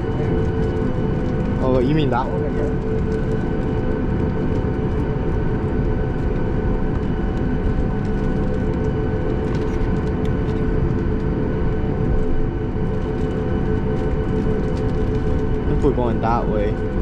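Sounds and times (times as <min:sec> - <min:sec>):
jet engines idling low rumble: 0:00.0 - 0:17.0.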